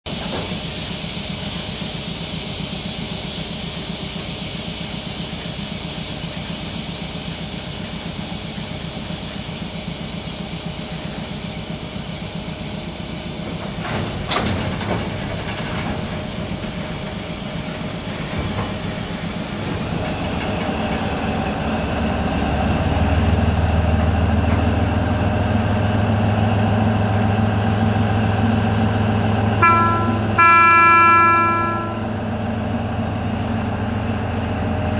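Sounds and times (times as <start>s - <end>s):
diesel locomotive engine drone: 0.1s - 34.9s.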